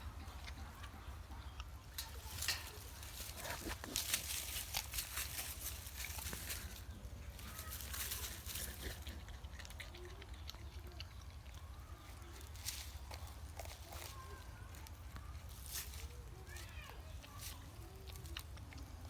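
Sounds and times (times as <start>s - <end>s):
porcupine chewing bamboo: 0.0s - 19.0s.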